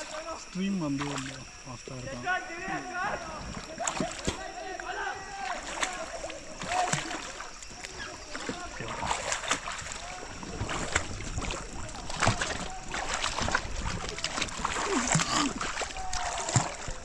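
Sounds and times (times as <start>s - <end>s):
sharp water splashes: 0.0s - 17.0s
river water rushing: 3.2s - 17.0s.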